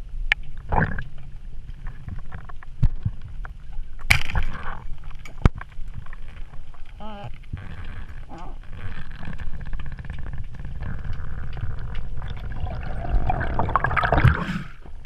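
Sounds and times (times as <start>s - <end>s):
low rumble: 0.0s - 15.0s
water sloshing and splashing: 0.4s - 15.0s.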